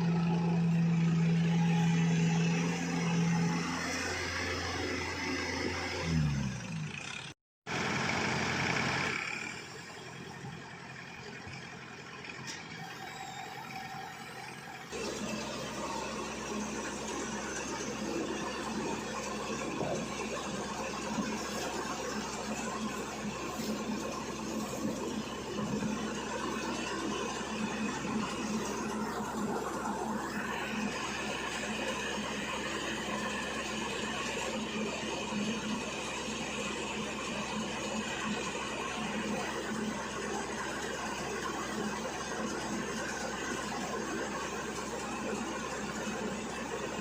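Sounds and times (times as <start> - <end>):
harvesting machine engine running: 0.0 - 47.0.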